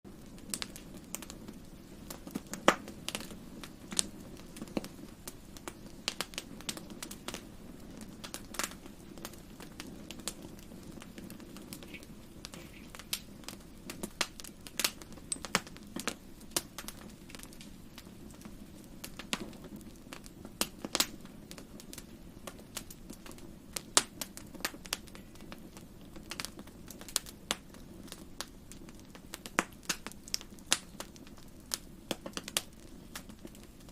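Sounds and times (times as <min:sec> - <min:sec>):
wood fire crackling: 0:00.1 - 0:33.9.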